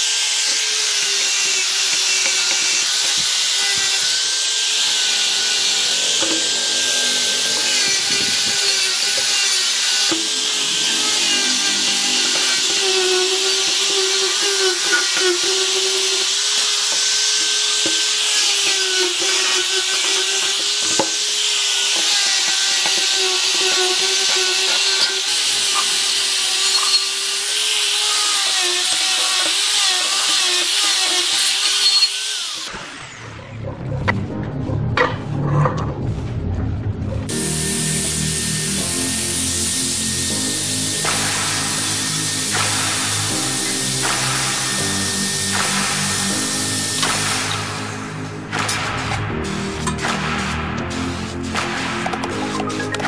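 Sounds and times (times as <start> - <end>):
angle grinder whining: 0.0 - 33.4, 37.3 - 53.0
abrasive disc hissing on steel: 1.6 - 32.7, 37.3 - 53.0.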